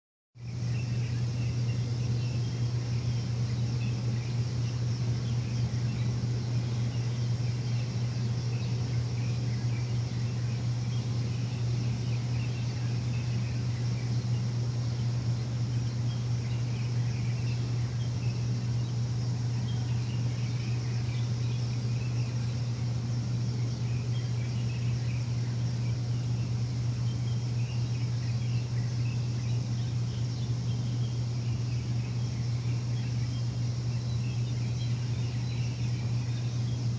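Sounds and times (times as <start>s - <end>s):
birds chirping: 0.4s - 36.9s
low machine hum: 0.4s - 36.9s.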